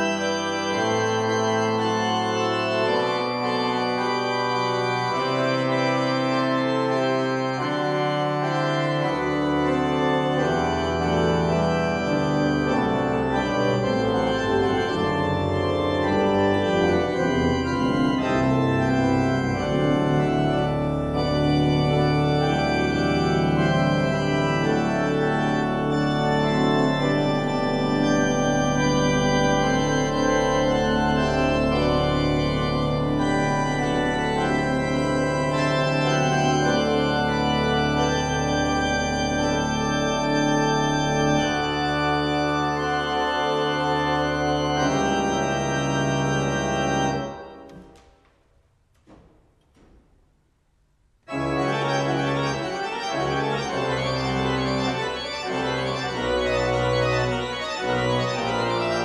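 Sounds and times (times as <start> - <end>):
pipe organ chords: 0.0 - 48.2, 51.2 - 59.0.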